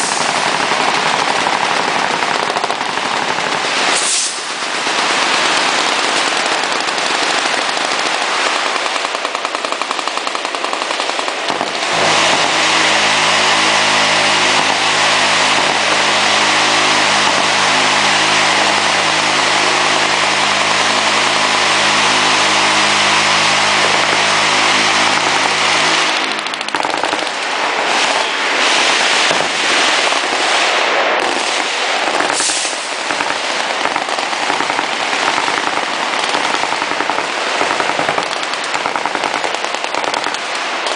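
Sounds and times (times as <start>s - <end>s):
steady low drone: 0.0s - 39.2s
machine gun fire: 0.0s - 40.9s.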